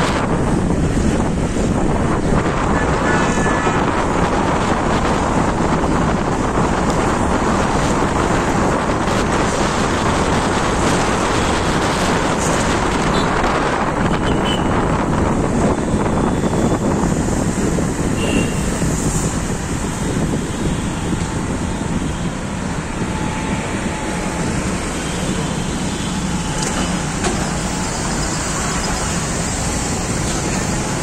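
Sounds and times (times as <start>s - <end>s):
road traffic rushing: 0.0s - 31.0s
wind buffeting microphone: 0.0s - 31.0s.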